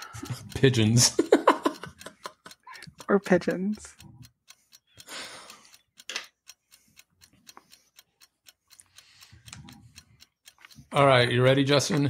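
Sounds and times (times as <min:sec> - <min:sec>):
faint clicks and ticks: 0:00.0 - 0:12.0.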